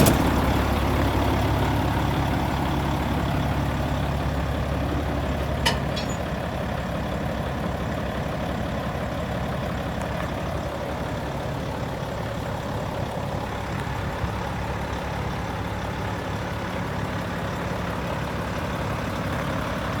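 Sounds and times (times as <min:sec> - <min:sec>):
diesel truck idling: 0:00.0 - 0:20.0.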